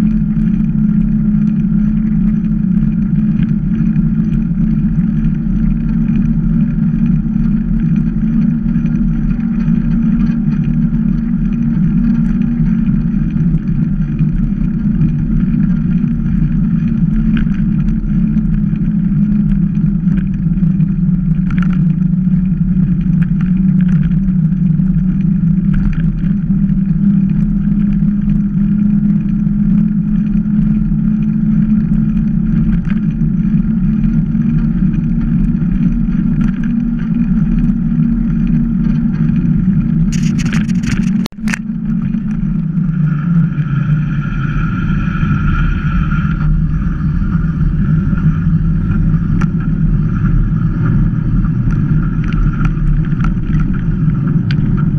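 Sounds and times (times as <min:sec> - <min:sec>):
bike tyre noise on asphalt: 0:00.0 - 0:54.9
wind rumble: 0:00.0 - 0:54.9.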